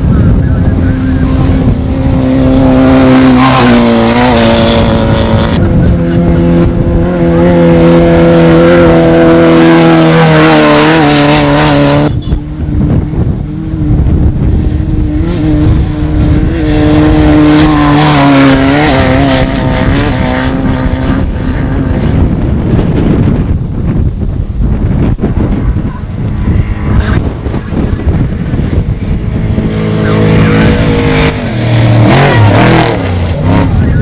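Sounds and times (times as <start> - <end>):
engine revving up and down: 0.0 - 23.2, 25.7 - 34.0
race vehicle engine running hard: 0.0 - 34.0.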